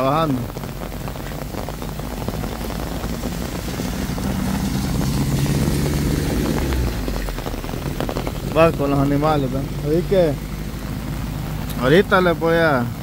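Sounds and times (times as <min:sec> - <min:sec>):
truck engine passing on wet road: 0:00.0 - 0:13.0.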